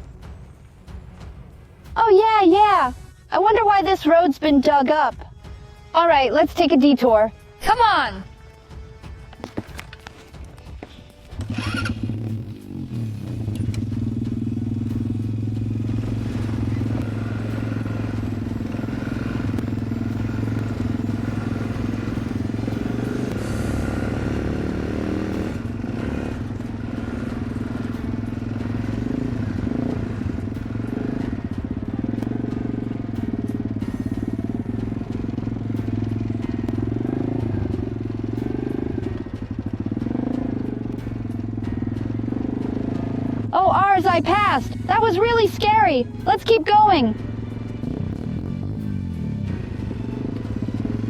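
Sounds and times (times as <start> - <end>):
small off-road engines running: 0.0 - 51.0.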